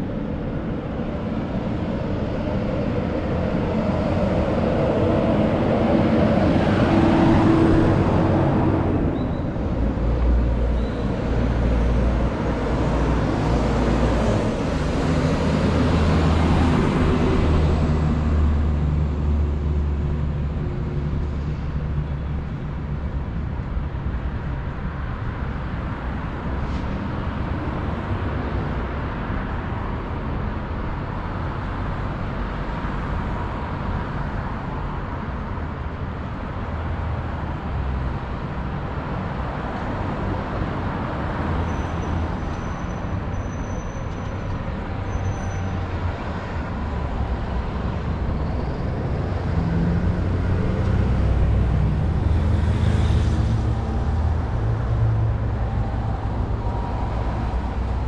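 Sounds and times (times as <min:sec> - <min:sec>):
minibus engine passing: 0:00.0 - 0:58.0
traffic hum: 0:00.0 - 0:58.0
vehicles passing with low rumble: 0:00.0 - 0:58.0.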